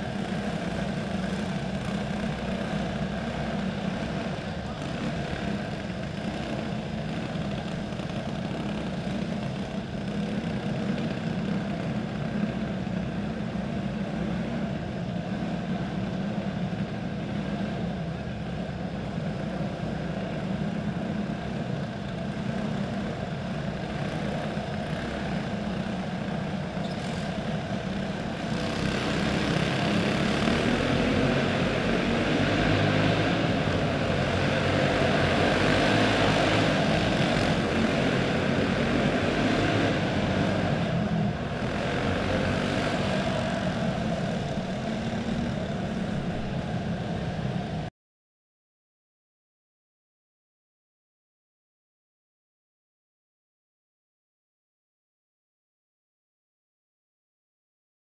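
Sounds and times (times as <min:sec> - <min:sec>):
kart engines racing: 0:00.0 - 0:47.9.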